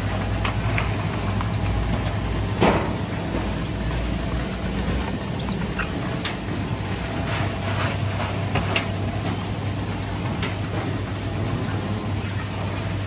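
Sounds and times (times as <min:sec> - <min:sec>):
roller conveyor hum and rattle: 0:00.0 - 0:13.0.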